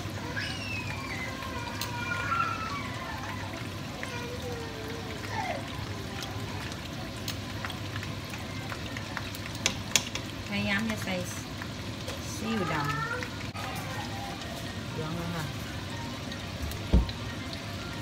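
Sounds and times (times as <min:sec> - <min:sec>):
deep-frying sizzle in oil: 0:00.0 - 0:18.0.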